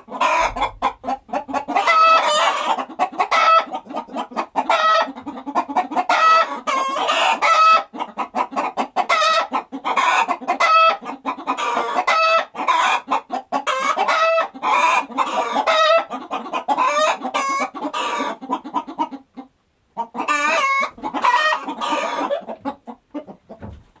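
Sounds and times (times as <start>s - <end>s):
chickens clucking and squawking: 0.0s - 24.0s.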